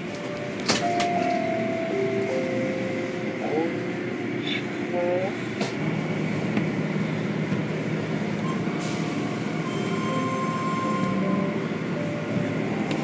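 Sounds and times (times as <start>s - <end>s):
car wash machinery hum: 0.0s - 13.0s.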